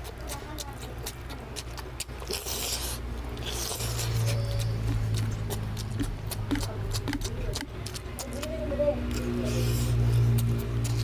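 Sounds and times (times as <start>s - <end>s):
chewing with lip smacks: 0.0s - 11.0s
wet slurps: 0.0s - 11.0s.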